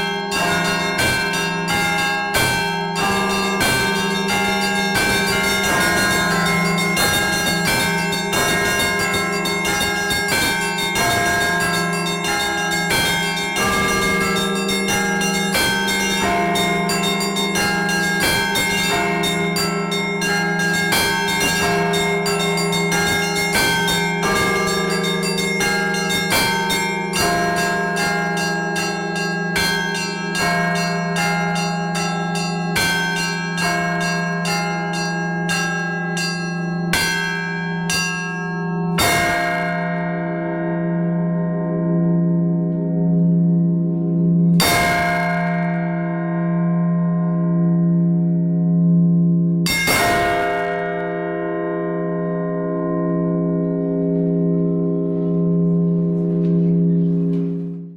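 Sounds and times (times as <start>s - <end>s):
deep bell humming: 0.0s - 57.9s
high church bells pealing: 0.0s - 57.9s.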